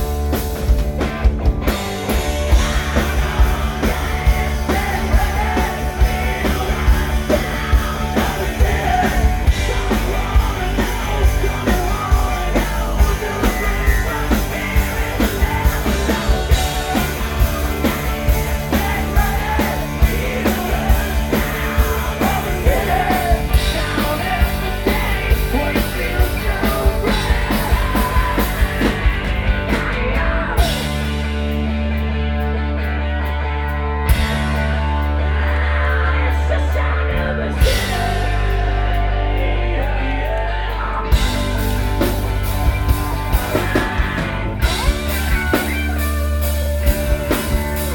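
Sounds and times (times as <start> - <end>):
hard rock band playing: 0.0 - 47.9
person singing: 2.5 - 31.2, 34.8 - 47.9.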